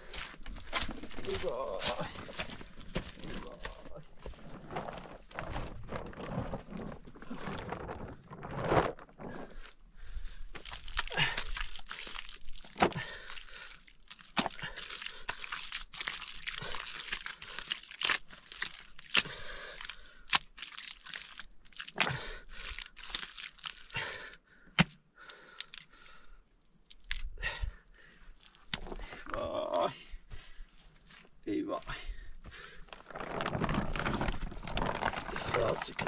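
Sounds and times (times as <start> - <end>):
wet mud kneaded by hand: 0.0 - 9.8, 10.4 - 31.9, 32.8 - 36.0.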